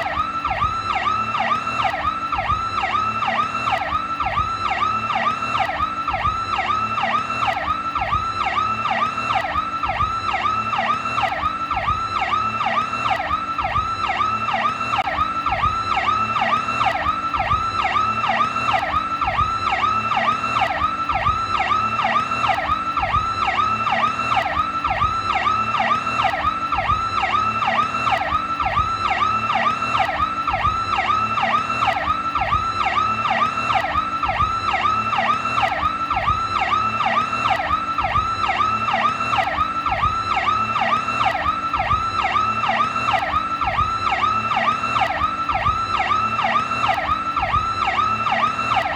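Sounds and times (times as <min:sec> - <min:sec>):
police siren: 0:00.0 - 0:48.9.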